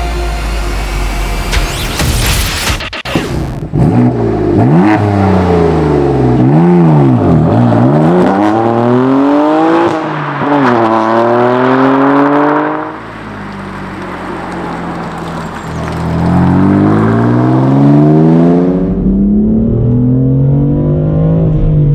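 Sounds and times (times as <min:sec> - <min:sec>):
car engine revving hard: 0:00.0 - 0:13.0, 0:14.7 - 0:21.8.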